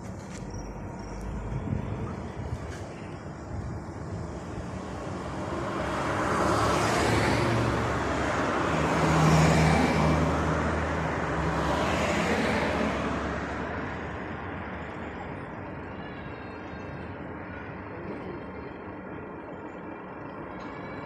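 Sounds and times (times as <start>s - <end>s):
vehicles driving past: 0.0s - 21.0s.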